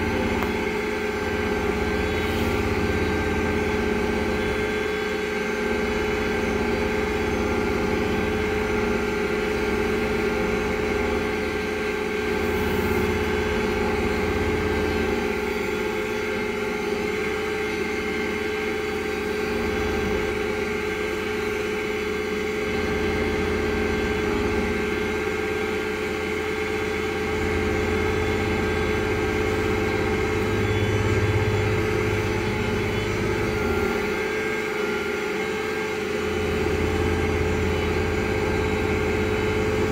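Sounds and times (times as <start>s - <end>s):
steady whine: 0.0s - 39.9s
tractor diesel engine running: 0.0s - 39.9s.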